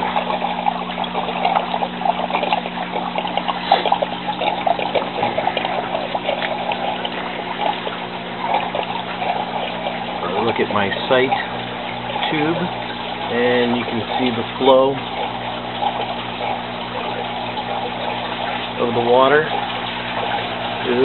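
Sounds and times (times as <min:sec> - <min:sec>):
steady low hum: 0:00.0 - 0:21.0
water trickling and splashing: 0:00.0 - 0:21.0.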